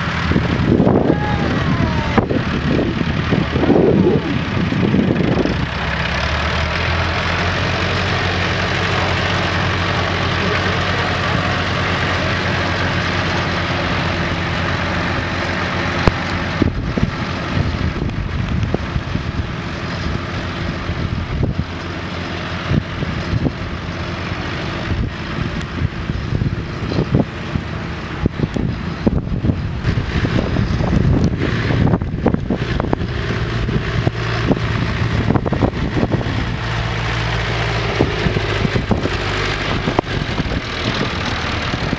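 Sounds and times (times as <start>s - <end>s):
wind buffeting microphone: 0.0s - 8.6s, 16.0s - 41.9s
tractor engine driving past: 0.0s - 41.9s.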